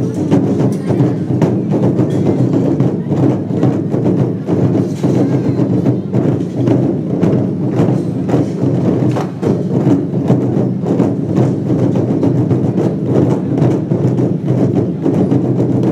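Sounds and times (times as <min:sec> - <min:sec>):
drums beating rapidly: 0:00.0 - 0:15.9.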